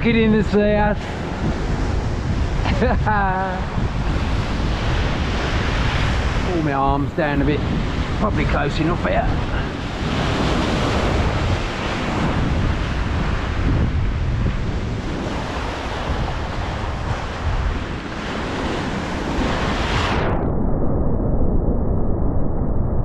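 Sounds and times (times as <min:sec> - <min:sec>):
wind buffeting microphone: 0:00.0 - 0:23.0
sea surf breaking: 0:00.1 - 0:20.3.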